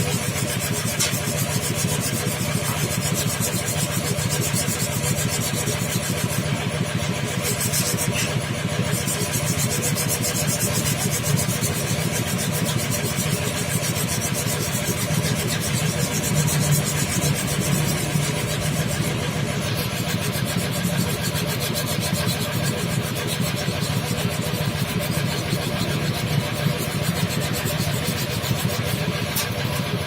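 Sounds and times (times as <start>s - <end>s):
two-stroke scooter engine running: 0.0s - 30.0s.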